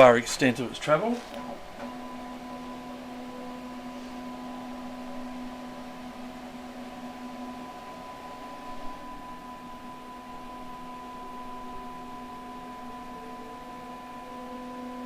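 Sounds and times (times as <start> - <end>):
stepper motor whine: 1.0 - 15.0.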